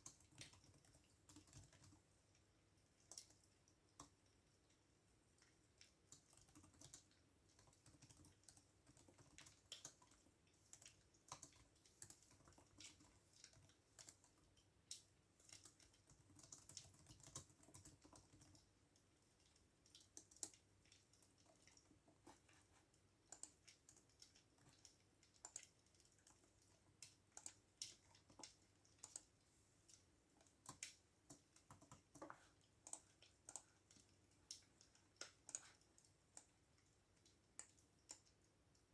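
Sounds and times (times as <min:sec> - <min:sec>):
typing on computer keyboard: 0:00.0 - 0:04.4, 0:05.4 - 0:22.4, 0:23.2 - 0:38.9.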